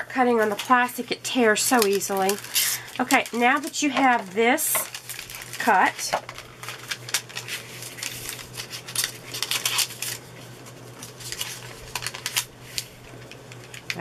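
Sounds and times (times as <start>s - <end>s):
plastic cover crinkling: 0.1s - 14.0s.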